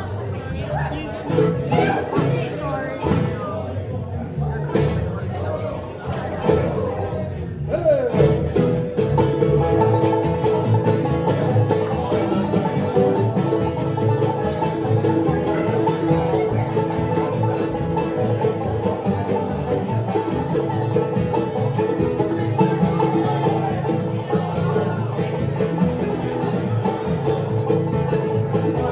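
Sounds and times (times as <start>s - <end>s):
banjo picking: 0.0s - 28.9s
bluegrass band playing: 0.0s - 28.9s
guitar: 0.0s - 28.9s.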